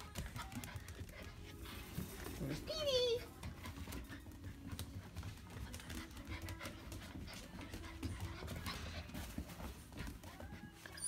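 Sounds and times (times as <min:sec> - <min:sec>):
puppy claws clicking on wooden floor: 0:00.0 - 0:02.6, 0:03.2 - 0:11.0.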